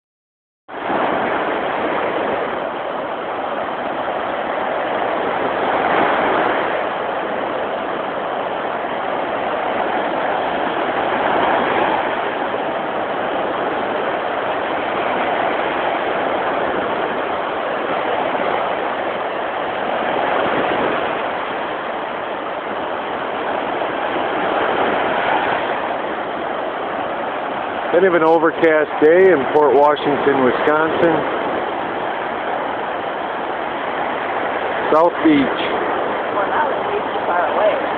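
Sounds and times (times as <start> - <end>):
small waves washing on sand: 0.7 - 37.9.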